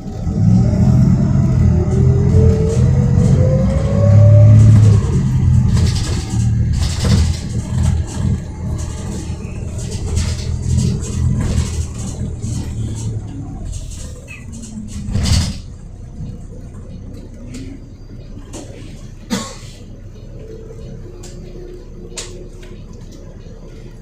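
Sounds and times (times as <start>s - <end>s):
bus diesel engine humming: 0.0s - 24.0s.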